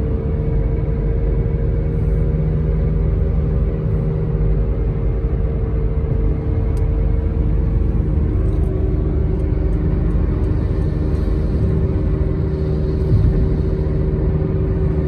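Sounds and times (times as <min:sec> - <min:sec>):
tyre and engine rumble: 0:00.0 - 0:15.0.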